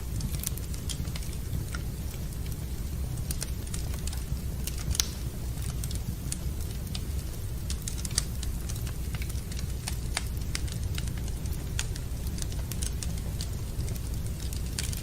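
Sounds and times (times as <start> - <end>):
fire low rumble: 0.0 - 15.0
wood crackling and popping: 0.0 - 15.0.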